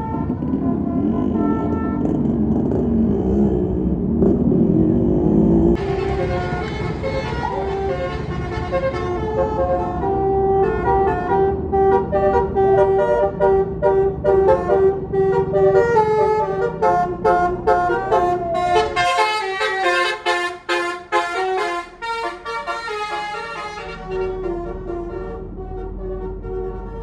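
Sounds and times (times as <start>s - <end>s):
musical bus horn tune: 0.0s - 2.3s, 5.8s - 27.0s
bus engine rumble: 0.0s - 27.0s.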